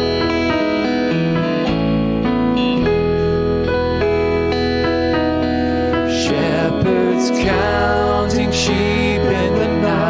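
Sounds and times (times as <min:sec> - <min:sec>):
instrumental worship music with guitar: 0:00.0 - 0:10.0.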